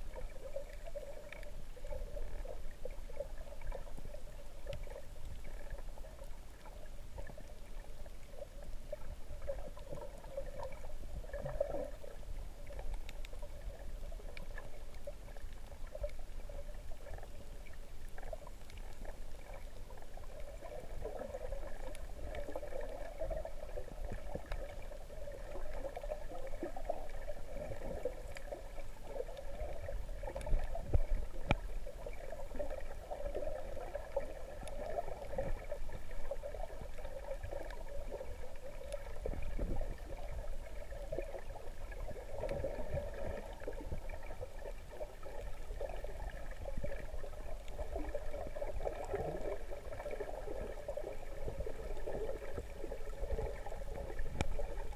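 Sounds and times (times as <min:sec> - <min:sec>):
faint steady hum: 0:00.0 - 0:54.9
water sloshing underwater: 0:00.0 - 0:54.9.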